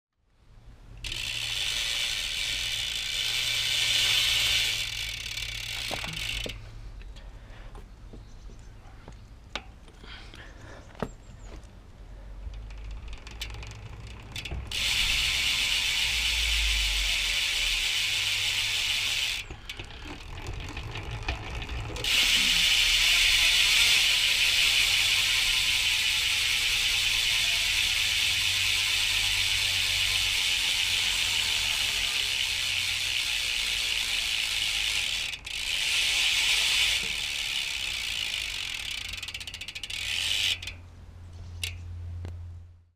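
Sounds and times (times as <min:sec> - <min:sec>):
bicycle hub freewheeling buzz: 0:00.5 - 0:06.7, 0:12.1 - 0:40.9, 0:41.5 - 0:42.1.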